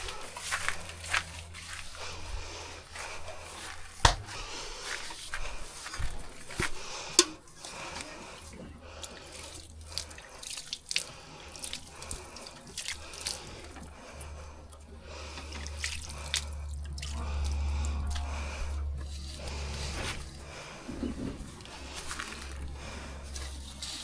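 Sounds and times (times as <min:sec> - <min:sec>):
low steady rumble: 0:00.0 - 0:24.0
milk squirting: 0:00.0 - 0:24.0.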